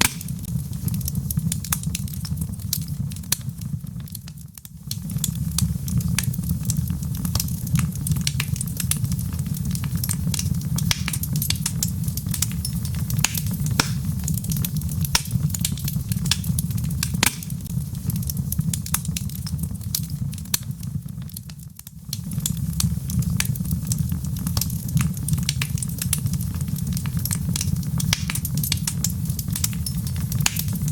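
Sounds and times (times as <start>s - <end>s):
fire flame rumbling: 0.0s - 30.9s
wood fire popping and snapping: 0.0s - 30.9s.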